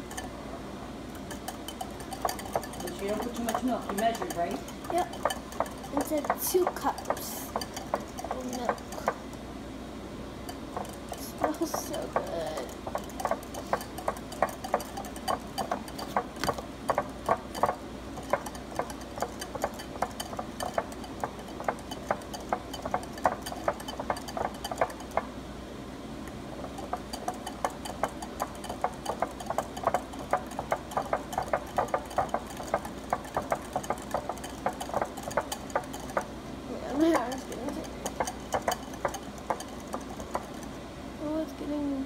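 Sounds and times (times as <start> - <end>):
whisk clicking against glass bowl: 0.0 - 0.3, 1.1 - 9.4, 10.5 - 25.3, 26.6 - 36.3, 36.9 - 40.8.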